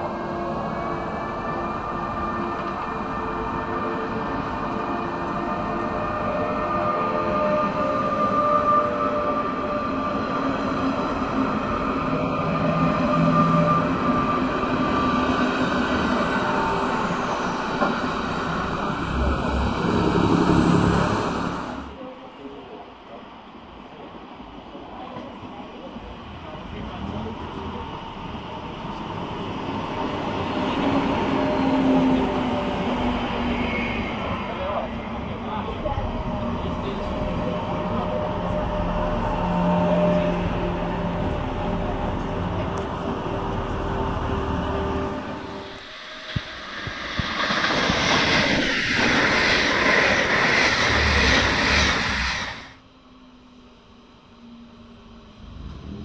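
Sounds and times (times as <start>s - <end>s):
passenger train passing: 0.0s - 56.0s.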